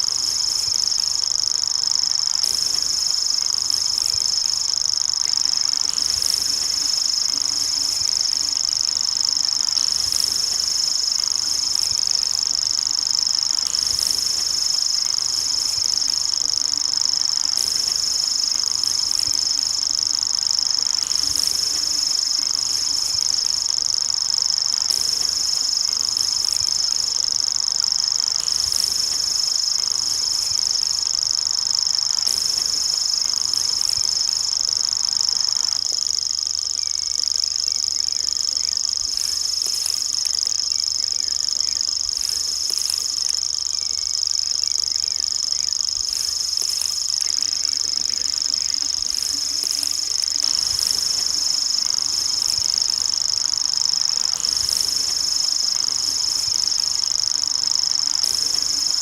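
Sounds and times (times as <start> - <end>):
bird reeling trill: 0.0 - 59.0.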